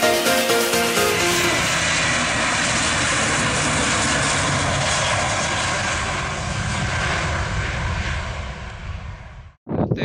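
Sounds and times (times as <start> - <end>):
aircraft engine rush: 0.0 - 10.0.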